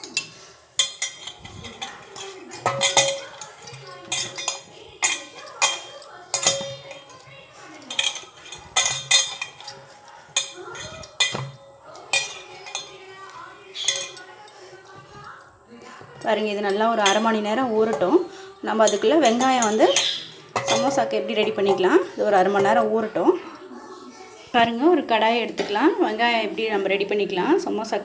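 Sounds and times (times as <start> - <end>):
metal utensils clinking on steel bowl: 0.0 - 28.0.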